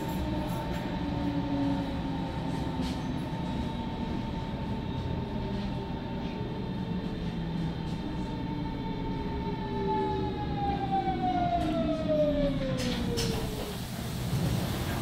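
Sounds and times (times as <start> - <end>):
wheels rumbling on track: 0.0 - 15.0.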